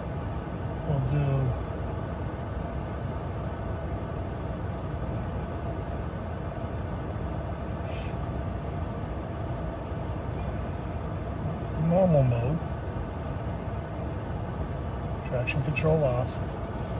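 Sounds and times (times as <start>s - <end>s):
pickup engine drone inside cab: 0.0s - 16.9s.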